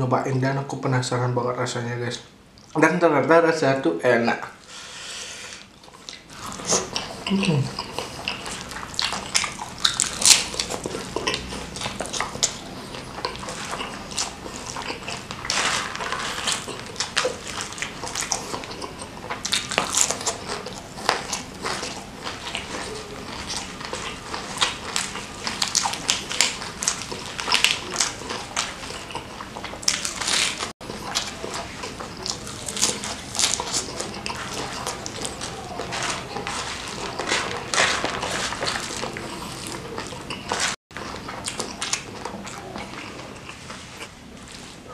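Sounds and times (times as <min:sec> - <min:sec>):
wet mouth sounds: 0:05.4 - 0:44.6
chewing and crunching: 0:05.5 - 0:44.9
crispy food crackles: 0:05.6 - 0:44.9.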